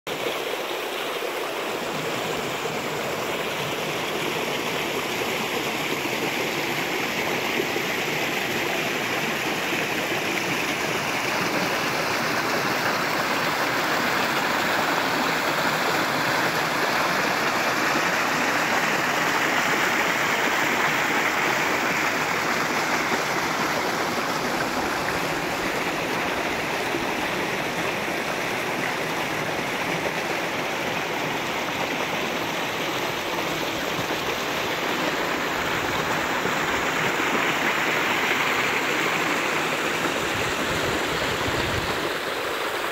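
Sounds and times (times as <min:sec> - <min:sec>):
stream rushing over rocks: 0:00.1 - 0:42.9.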